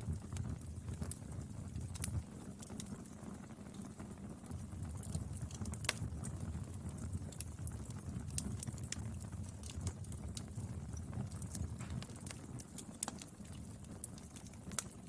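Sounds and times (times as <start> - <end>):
fire crackling and snapping: 0.0 - 15.0
low rumble of flame: 0.0 - 15.0.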